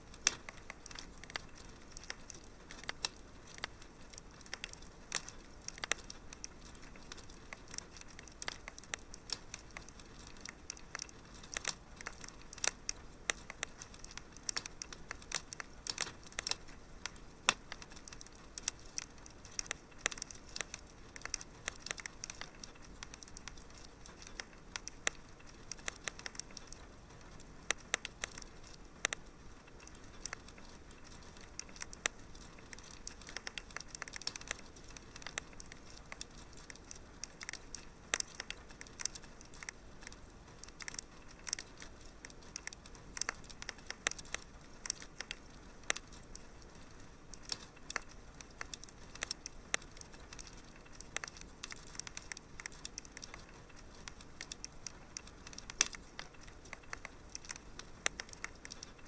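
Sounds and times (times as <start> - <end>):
fireplace fire crackling: 0.0 - 59.0.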